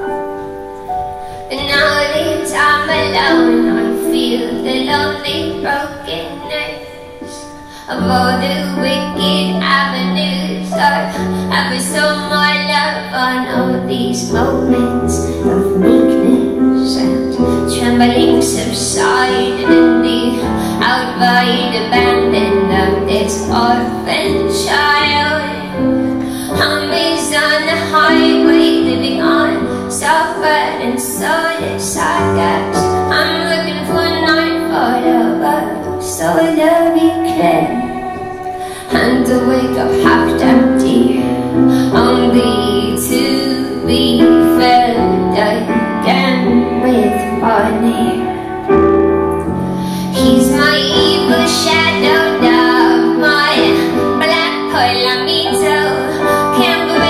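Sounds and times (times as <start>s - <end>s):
piano chords: 0.0s - 57.0s
woman singing with vibrato: 1.3s - 57.0s.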